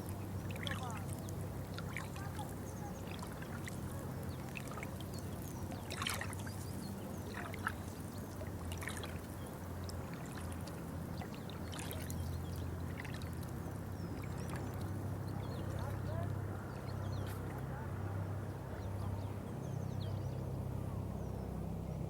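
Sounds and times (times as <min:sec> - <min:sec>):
water trickling and lapping: 0:00.0 - 0:21.9.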